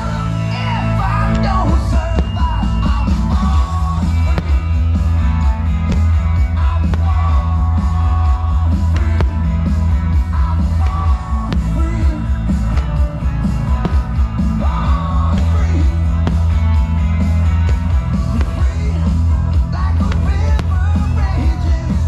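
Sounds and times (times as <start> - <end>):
loud rock music with vocals: 0.0 - 22.0.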